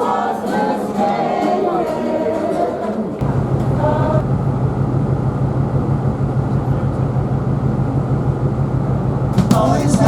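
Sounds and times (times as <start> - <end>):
constant rushing noise: 0.0 - 10.0
ferry engines humming: 0.0 - 10.0.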